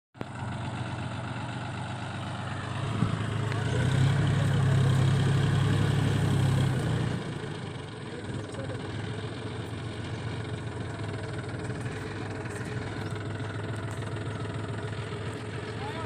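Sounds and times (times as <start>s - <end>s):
tractor diesel engine running: 0.2s - 16.0s.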